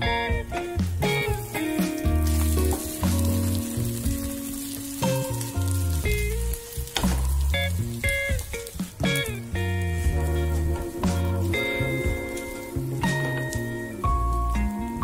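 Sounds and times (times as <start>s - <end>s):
background music with bass line: 0.0s - 15.0s
omelette sizzling in frying pan: 0.8s - 15.0s.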